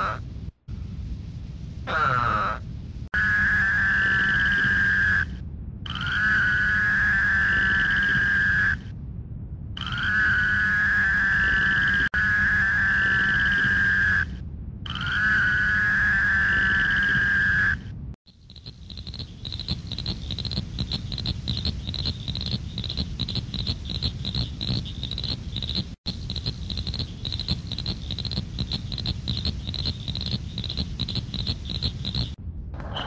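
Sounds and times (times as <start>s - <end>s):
chorus of frog calls: 1.9s - 8.9s, 9.8s - 33.0s
frog trilling: 3.2s - 5.3s, 5.9s - 8.9s, 9.8s - 17.8s, 18.4s - 32.4s.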